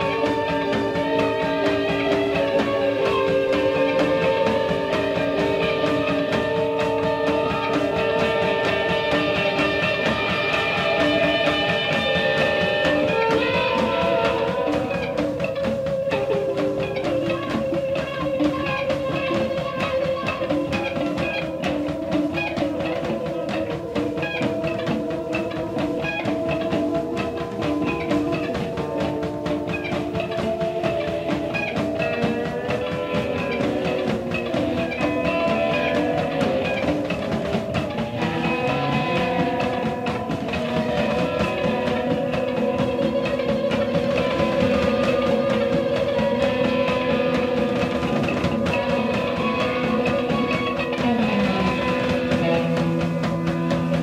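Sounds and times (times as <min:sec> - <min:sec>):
rock band playing instrumental: 0:00.0 - 0:54.0.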